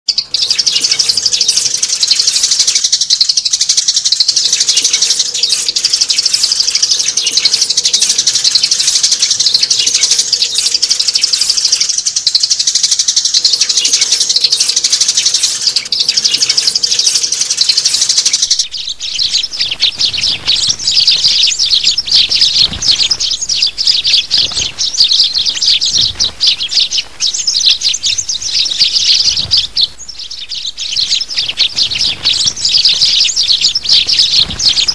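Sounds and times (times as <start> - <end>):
sparrows chirping: 0.1 - 34.9.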